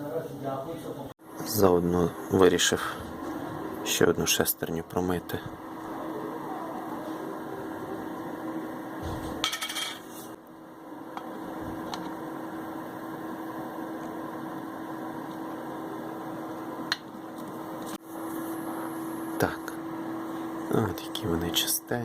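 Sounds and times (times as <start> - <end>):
extractor fan humming: 0.1 - 22.0.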